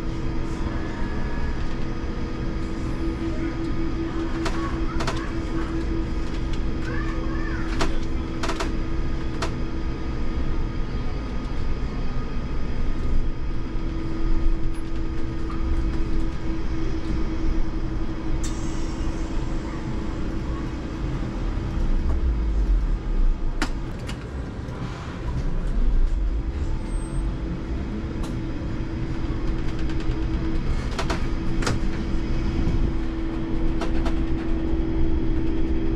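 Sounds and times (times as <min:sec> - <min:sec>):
road rumble: 0:00.0 - 0:35.9.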